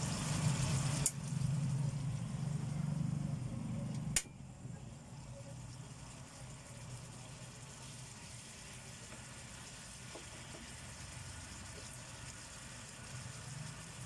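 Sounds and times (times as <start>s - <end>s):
gas stove burner rumbling: 0.0s - 14.0s
pan simmering: 0.0s - 14.0s.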